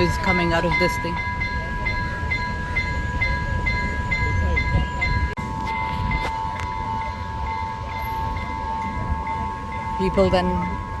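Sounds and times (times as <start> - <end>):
level crossing alarm beeping: 0.0 - 11.0.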